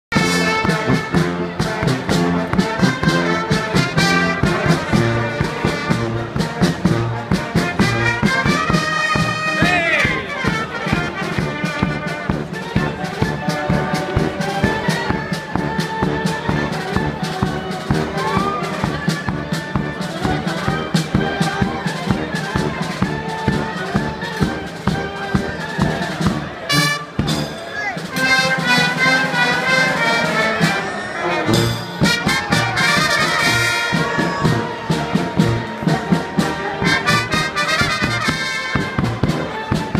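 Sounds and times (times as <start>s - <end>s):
bass drum beat: 0.1s - 27.5s, 31.6s - 39.9s
brass band playing: 0.1s - 39.9s.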